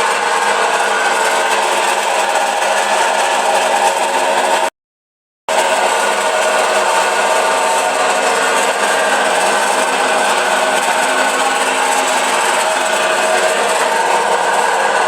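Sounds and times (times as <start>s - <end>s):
washing machine spinning: 0.0s - 4.7s, 5.5s - 15.0s.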